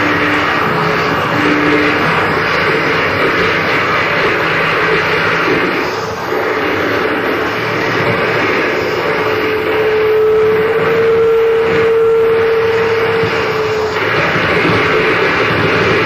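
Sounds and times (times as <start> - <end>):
harsh noise roar: 0.0 - 16.0
steady held tone: 0.0 - 16.0.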